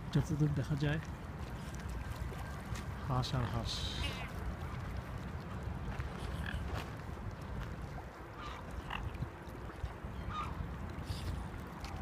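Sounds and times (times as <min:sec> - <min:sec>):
waterbirds calling: 0:00.0 - 0:12.0.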